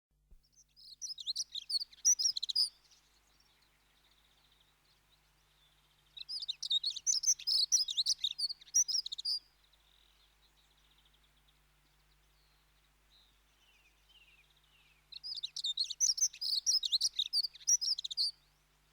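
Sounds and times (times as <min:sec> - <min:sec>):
bird warbling song: 0:00.4 - 0:18.7.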